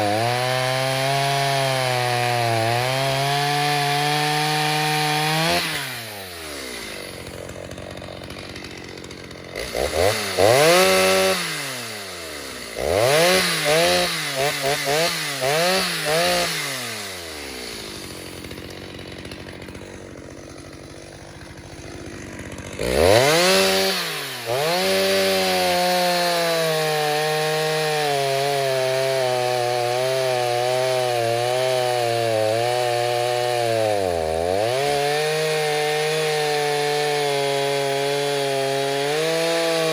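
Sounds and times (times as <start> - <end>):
chainsaw cutting wood: 0.0 - 39.9
chainsaw idling and revving: 0.0 - 39.9.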